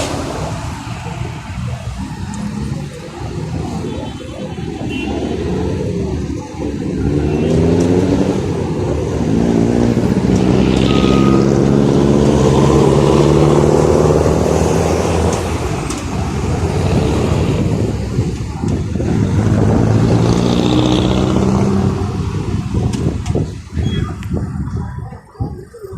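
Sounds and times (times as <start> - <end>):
vehicle engines accelerating: 0.0 - 25.5
steady traffic hum: 0.0 - 25.9.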